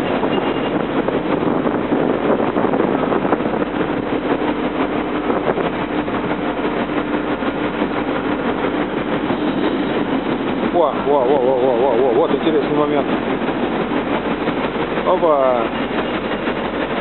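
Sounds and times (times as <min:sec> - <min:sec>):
heavy machinery noise: 0:00.0 - 0:17.0.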